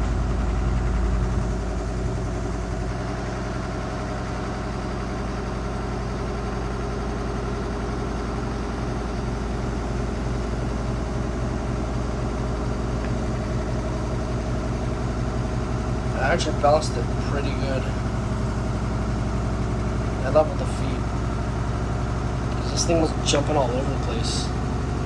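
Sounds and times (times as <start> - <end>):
motor hum: 0.0 - 25.0
washing machine spinning: 0.0 - 25.0.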